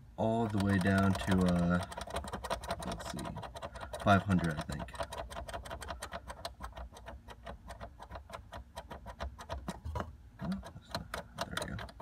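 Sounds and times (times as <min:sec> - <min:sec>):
rapid even ticking: 0:00.2 - 0:09.8, 0:10.4 - 0:12.0.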